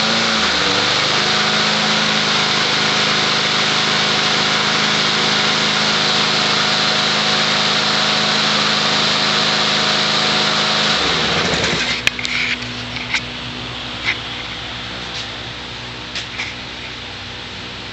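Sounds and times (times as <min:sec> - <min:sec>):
lawn mower engine running: 0:00.0 - 0:17.9.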